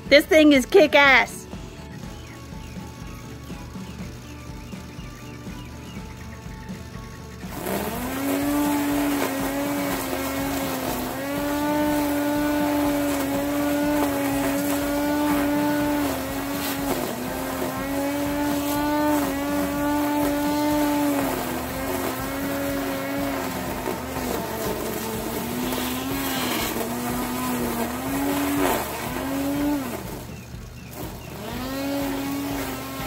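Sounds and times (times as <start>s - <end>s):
electric string trimmer whine: 0.0s - 33.0s.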